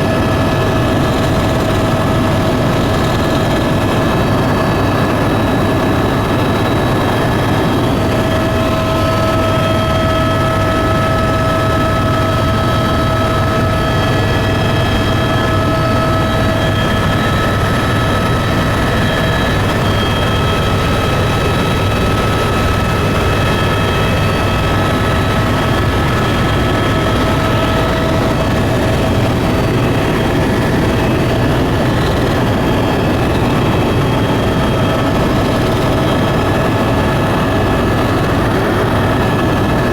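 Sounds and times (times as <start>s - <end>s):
aircraft engine drone in cabin: 0.0s - 39.9s.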